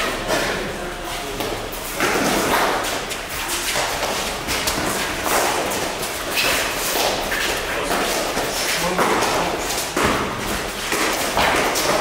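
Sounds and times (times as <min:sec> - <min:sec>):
footsteps on court floor: 0:00.1 - 0:12.0.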